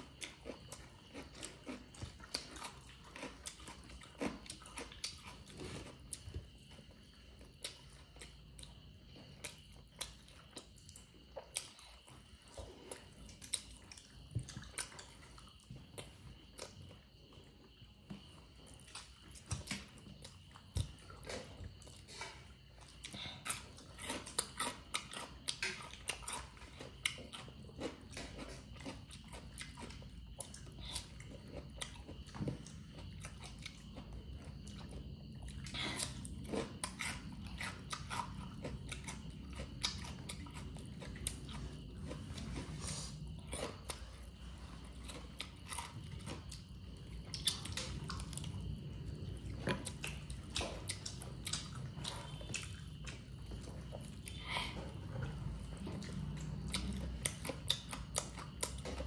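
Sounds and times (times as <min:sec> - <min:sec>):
crisp chewing crunches: 0:00.0 - 0:59.0.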